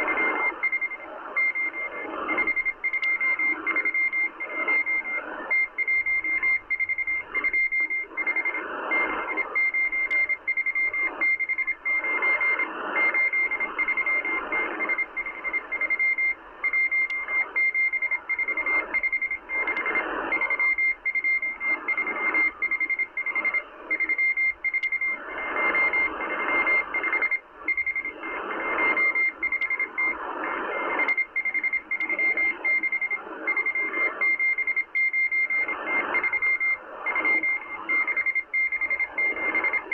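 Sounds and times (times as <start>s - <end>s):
shortwave radio hiss: 0.0s - 24.2s, 25.0s - 39.9s
morse code beeps: 0.0s - 39.9s
static clicks: 0.0s - 39.9s.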